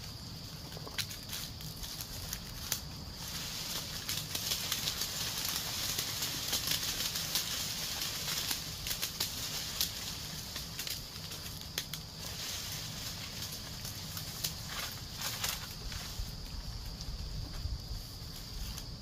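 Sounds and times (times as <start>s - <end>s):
rustling with clicks and knocks: 0.6s - 17.7s.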